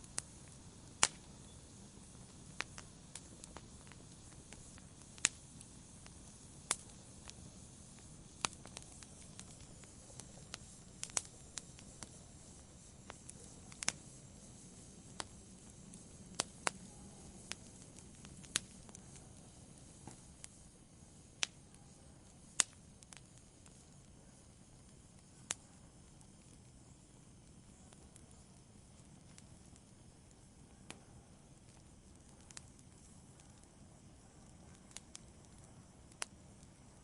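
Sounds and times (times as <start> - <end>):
campfire crackling: 0.0 - 37.0
soft hiss of flames: 0.0 - 37.0.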